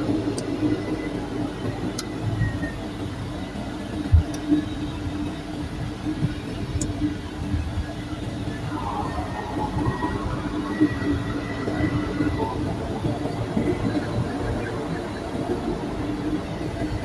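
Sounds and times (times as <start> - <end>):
turboprop engine droning: 0.0 - 17.0.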